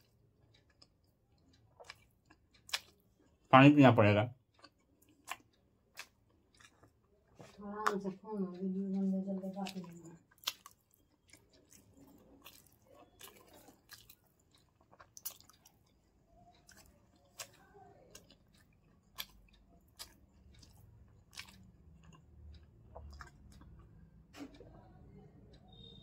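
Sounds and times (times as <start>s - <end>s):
wet chewing: 0.0s - 3.6s, 4.4s - 24.9s.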